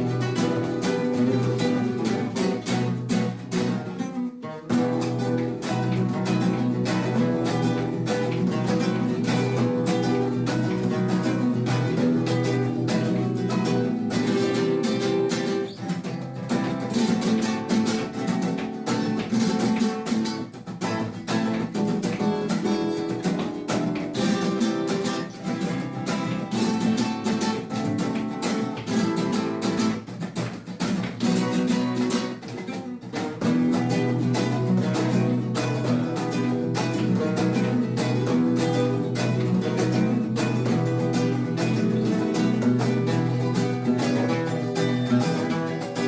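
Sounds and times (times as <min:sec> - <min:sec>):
acoustic guitar music: 0:00.0 - 0:46.0.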